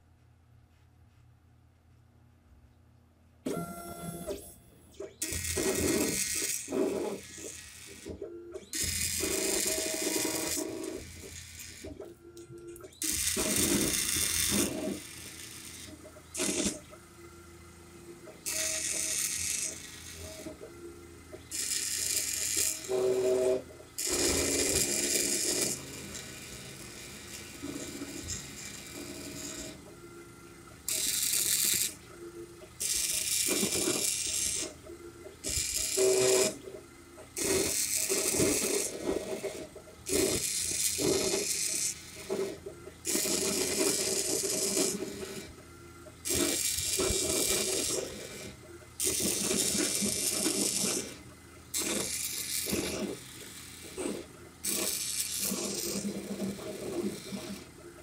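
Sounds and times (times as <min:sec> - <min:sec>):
stepper motors buzzing and whining: 0:03.5 - 0:58.0.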